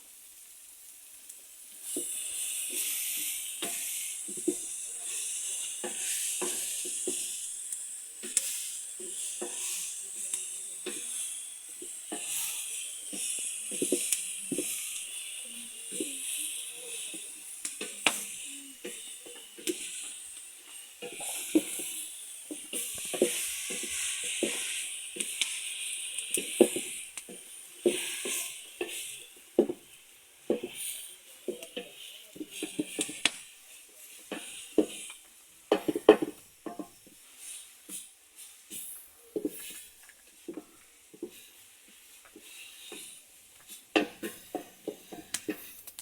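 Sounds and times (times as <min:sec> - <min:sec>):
food sizzling in a pan: 0:00.0 - 0:46.0
utensil scraping a pan: 0:01.9 - 0:07.6, 0:08.2 - 0:29.9, 0:35.7 - 0:46.0.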